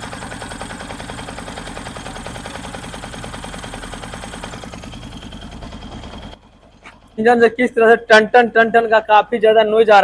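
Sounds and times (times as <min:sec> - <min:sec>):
motorcycle engine idling with knocking: 0:00.0 - 0:09.4.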